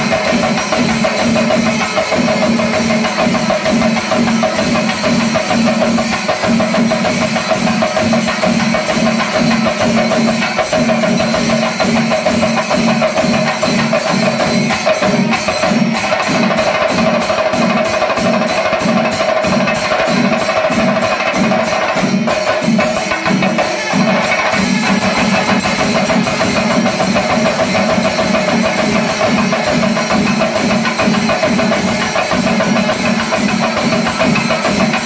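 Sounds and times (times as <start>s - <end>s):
drums beaten fast: 0.0s - 35.0s
hand cymbals clashing: 0.0s - 35.0s.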